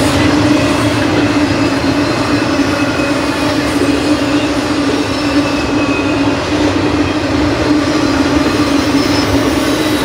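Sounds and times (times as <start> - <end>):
freight train rolling past: 0.0 - 10.0
steel wheels on rails: 0.0 - 10.0.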